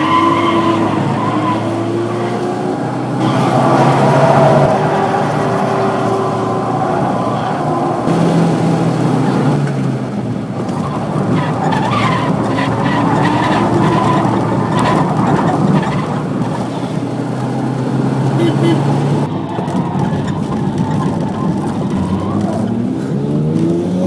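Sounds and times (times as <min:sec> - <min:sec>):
race car engines: 0:00.0 - 0:24.0
tyres skidding: 0:00.0 - 0:24.0.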